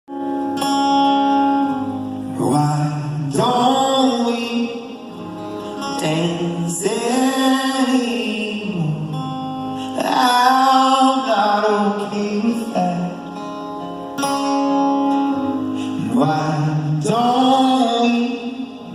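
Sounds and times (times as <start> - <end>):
acoustic guitar: 0.1 - 18.9
person singing slow melody: 0.1 - 18.9.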